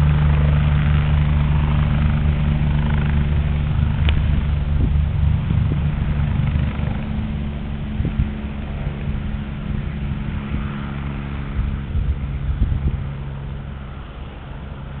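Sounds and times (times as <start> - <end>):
helicopter rotor and turbine drone: 0.0 - 15.0.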